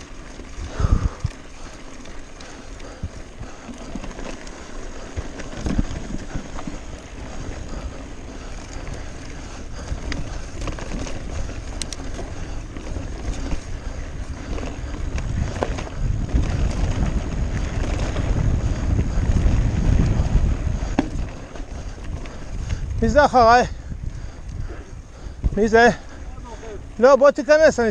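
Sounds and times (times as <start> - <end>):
bike rattling: 0.0 - 27.9
wind buffeting microphone: 0.0 - 27.9.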